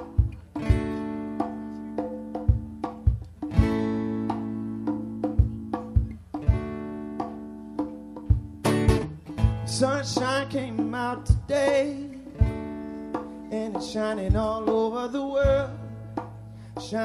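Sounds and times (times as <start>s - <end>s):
acoustic guitar strummed: 0.0s - 17.0s.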